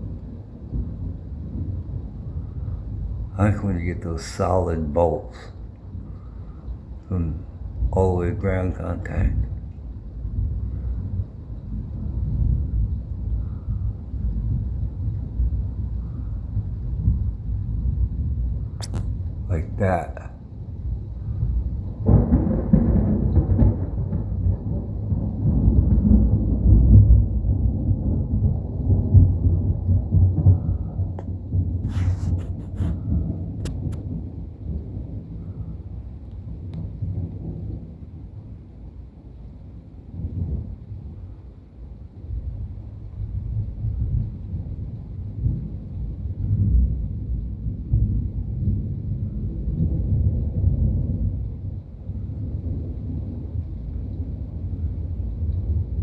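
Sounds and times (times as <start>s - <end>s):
thunder rumbling: 0.0s - 38.9s, 40.0s - 56.0s.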